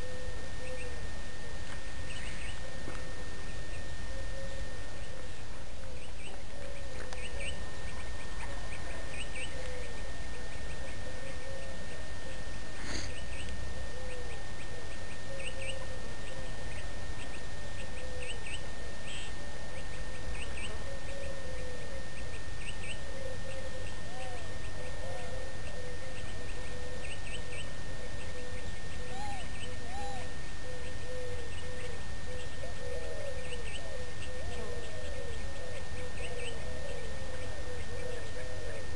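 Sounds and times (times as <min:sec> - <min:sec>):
low bird call: 0:00.0 - 0:01.0, 0:02.0 - 0:38.9
faint high whine: 0:00.0 - 0:38.9
low background noise: 0:00.0 - 0:38.9.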